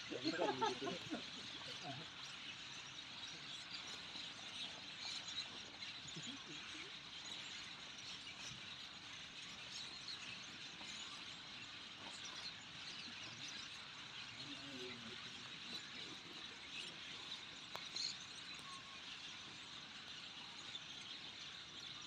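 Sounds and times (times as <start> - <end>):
faint chirps and ticks: 0.0 - 22.0.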